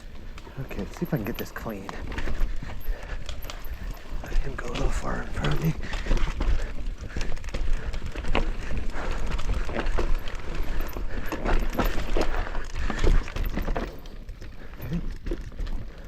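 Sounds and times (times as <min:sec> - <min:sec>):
bike knocking and rattling: 0:00.0 - 0:16.0
bike tyres rolling over dirt: 0:00.0 - 0:16.0.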